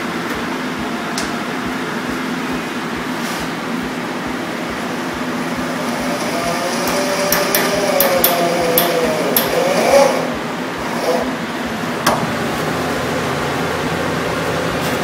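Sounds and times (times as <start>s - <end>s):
fan-like hum: 0.0s - 15.0s
wavering whine: 0.0s - 15.0s.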